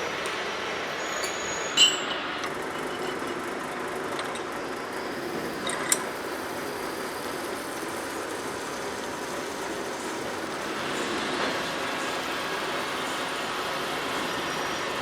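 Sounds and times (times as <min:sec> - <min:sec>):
metalworking machinery running: 0:00.0 - 0:15.0.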